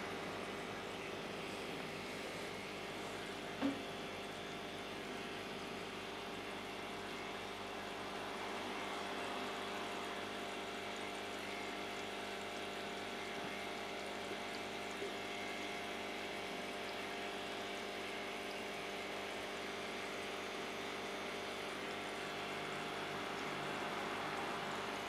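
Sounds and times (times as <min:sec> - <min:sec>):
filter pump hum: 0:00.0 - 0:25.0
water trickling: 0:00.0 - 0:25.0.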